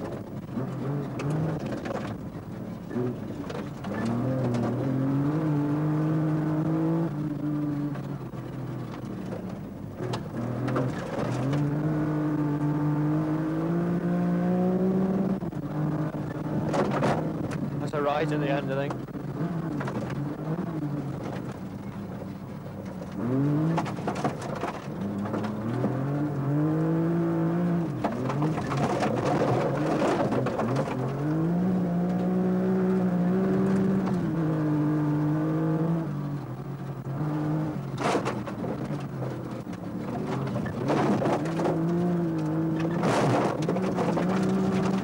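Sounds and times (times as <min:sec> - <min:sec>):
rally car engine revving: 0:00.0 - 0:45.0.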